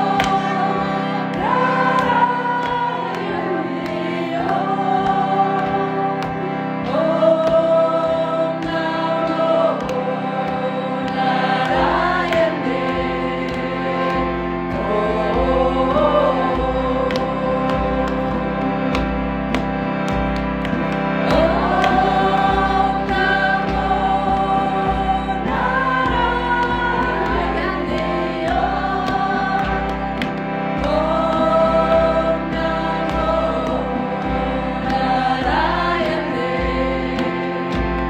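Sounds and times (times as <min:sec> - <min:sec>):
voices singing held notes: 0:00.0 - 0:38.0.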